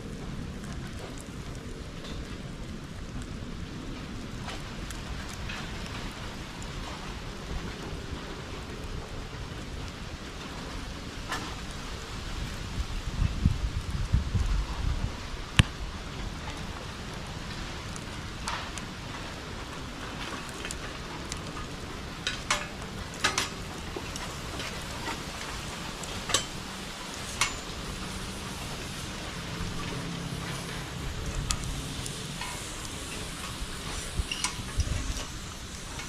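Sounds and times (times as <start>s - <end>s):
bonfire crackling: 0.0s - 36.0s
fire popping: 0.0s - 36.0s.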